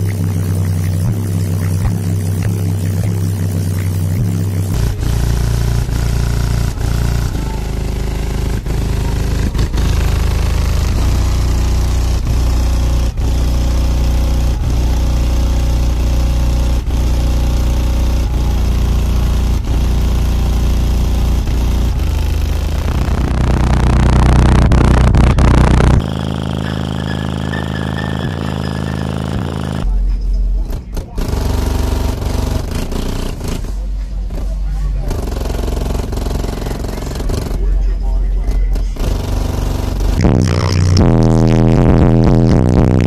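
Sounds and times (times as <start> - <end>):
bass-heavy music from subwoofers: 0.0 - 43.0.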